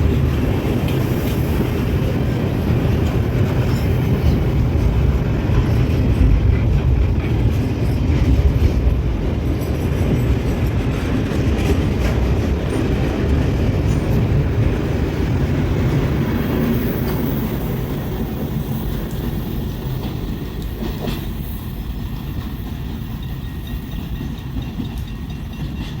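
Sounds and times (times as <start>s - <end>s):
freight train cars rolling past: 0.0s - 26.0s
wheels clacking over rail joints: 0.0s - 26.0s.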